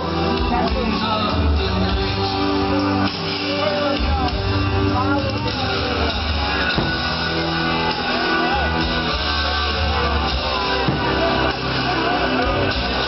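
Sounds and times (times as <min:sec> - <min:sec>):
rock guitar music: 0:00.0 - 0:13.0.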